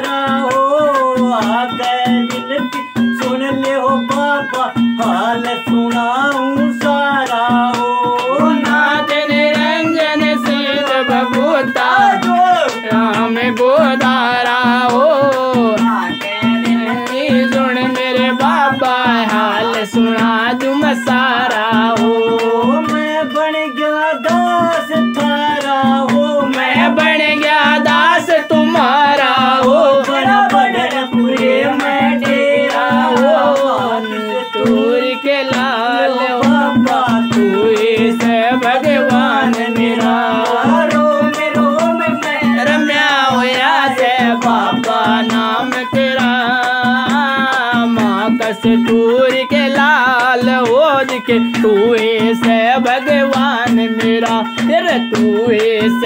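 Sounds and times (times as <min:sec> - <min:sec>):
hand drum strokes: 0:00.0 - 0:56.0
harmonium drone and melody: 0:00.0 - 0:56.0
man singing: 0:00.0 - 0:56.0.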